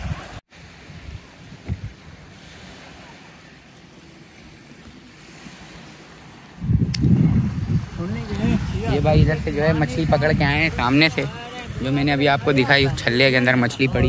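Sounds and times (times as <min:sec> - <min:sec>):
wind on microphone: 0:00.0 - 0:02.9, 0:05.2 - 0:14.0
sea surf on shore: 0:00.0 - 0:14.0.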